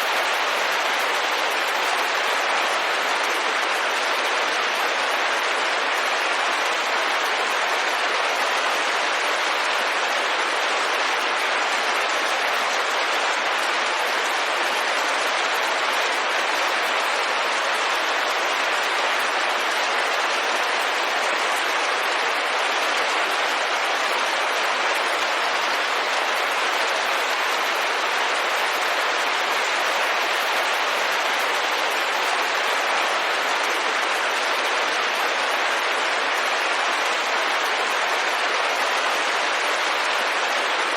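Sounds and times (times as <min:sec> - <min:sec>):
rain falling on a window: 0:00.0 - 0:40.9.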